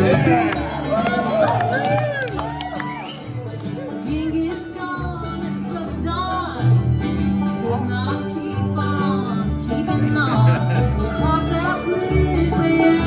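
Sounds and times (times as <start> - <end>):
bluegrass band playing: 0.0 - 13.0
upright bass low notes: 0.0 - 13.0.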